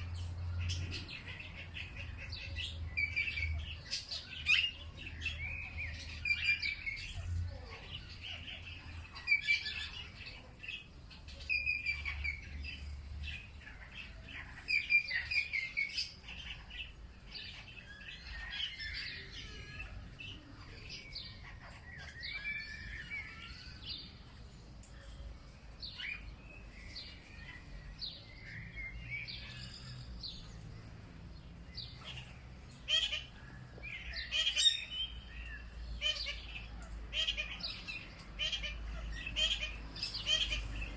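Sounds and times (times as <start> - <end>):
wild birds chirping and singing: 0.0 - 40.9.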